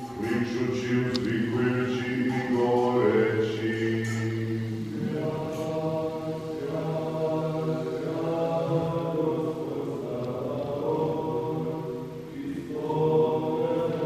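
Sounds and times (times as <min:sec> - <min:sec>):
voices chanting long notes: 0:00.0 - 0:14.0.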